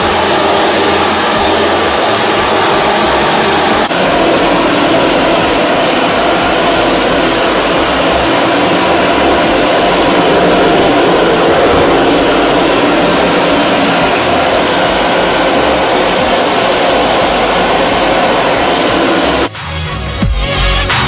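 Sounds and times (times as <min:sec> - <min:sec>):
blow dryer running: 0:00.0 - 0:19.5.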